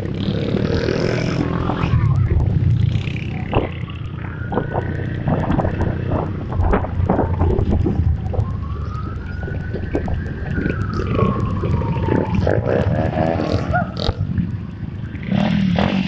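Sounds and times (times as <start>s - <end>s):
motorcycle engines rumbling: 0.0s - 16.0s
siren wailing: 1.2s - 15.6s
wind noise on microphone: 1.5s - 14.5s.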